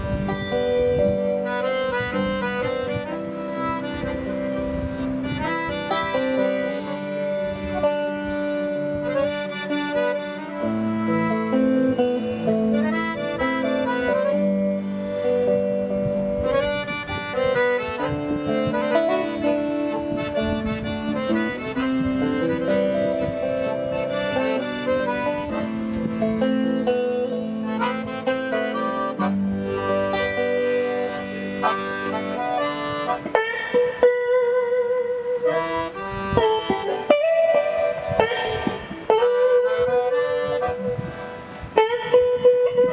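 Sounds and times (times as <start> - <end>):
accordion melody: 0.0 - 42.9
guitar plucking: 0.0 - 42.9.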